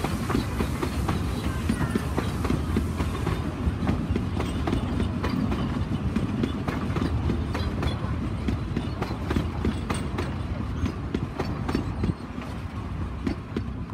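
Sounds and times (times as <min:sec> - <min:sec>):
train carriages rolling on rails: 0:00.0 - 0:13.9
wheels clicking and knocking: 0:00.0 - 0:13.9.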